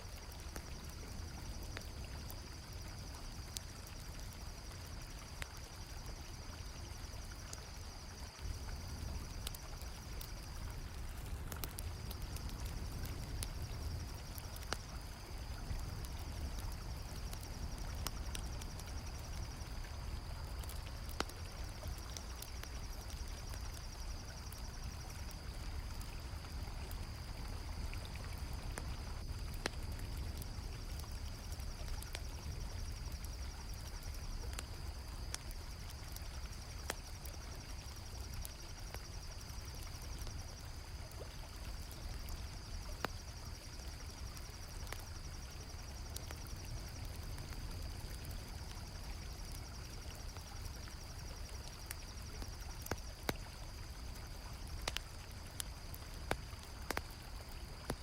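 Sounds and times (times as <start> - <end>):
campfire crackling and popping: 0.0 - 58.0
crickets chirring: 0.0 - 58.0.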